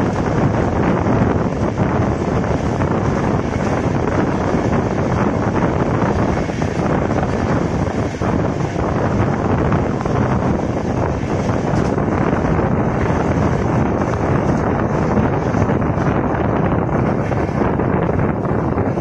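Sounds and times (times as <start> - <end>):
train coach running on track: 0.0 - 19.0
wind rushing over microphone: 0.0 - 19.0.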